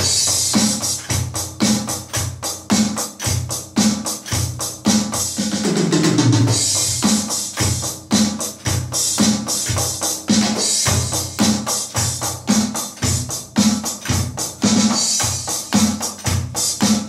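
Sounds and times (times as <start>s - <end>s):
electronic drum kit beat: 0.0s - 17.0s.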